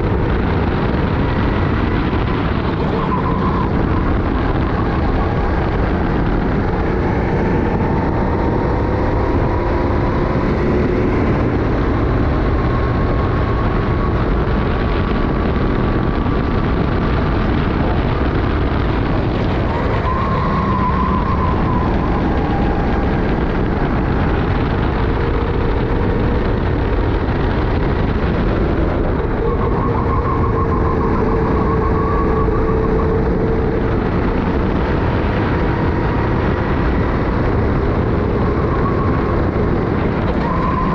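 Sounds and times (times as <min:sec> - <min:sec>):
kart engine racing: 0:00.0 - 0:40.9
wind rush: 0:00.0 - 0:40.9.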